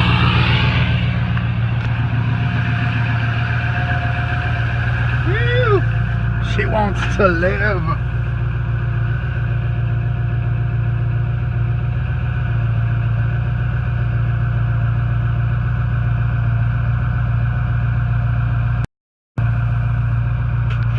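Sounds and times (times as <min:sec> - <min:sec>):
diesel engine idling: 0:00.0 - 0:18.8, 0:19.4 - 0:20.9.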